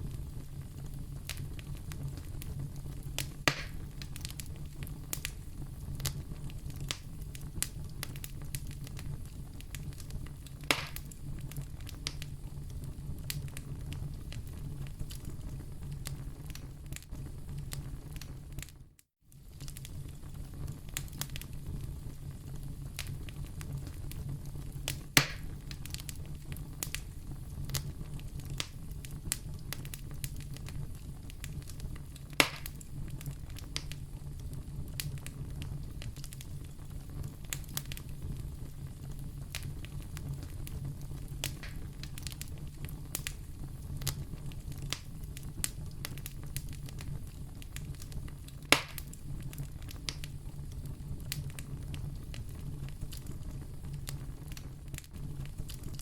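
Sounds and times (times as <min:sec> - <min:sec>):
loud fire pops: 0:00.0 - 0:18.8, 0:19.4 - 0:56.0
fireplace fire crackling: 0:00.0 - 0:56.0
low rumble of fire: 0:00.0 - 0:56.0.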